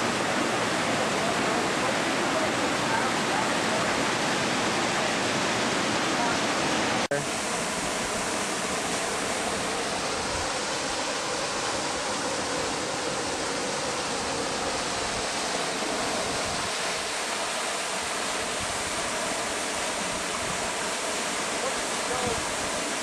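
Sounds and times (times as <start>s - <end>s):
rushing river water: 0.0s - 23.0s.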